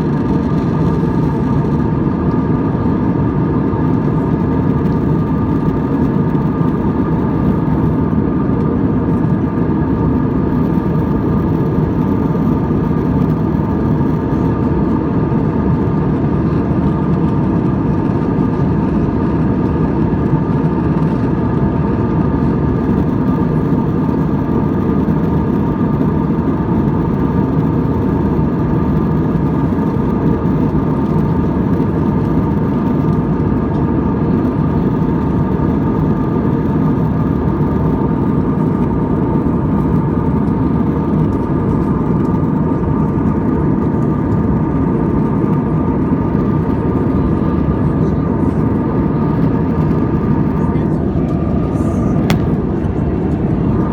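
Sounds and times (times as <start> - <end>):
jet engine cabin rush: 0.0 - 53.9.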